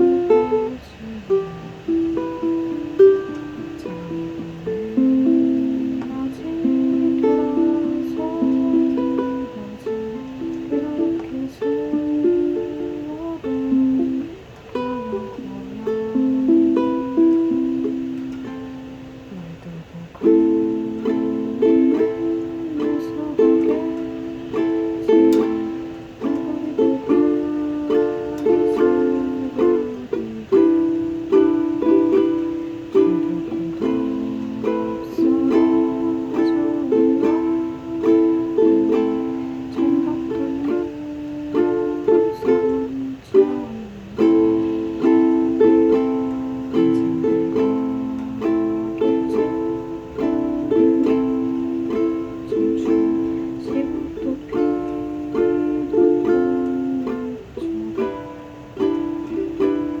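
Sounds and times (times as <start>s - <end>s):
ukulele strumming chords: 0.0s - 60.0s.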